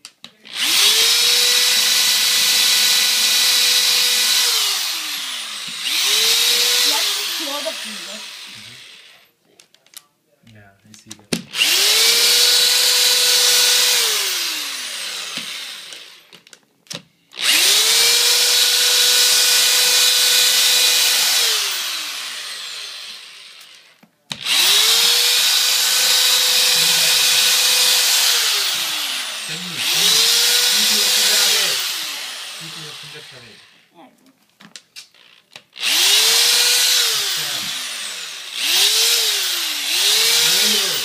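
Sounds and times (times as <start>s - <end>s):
electric drill whining: 0.5s - 9.3s, 11.5s - 33.9s, 35.0s - 41.0s.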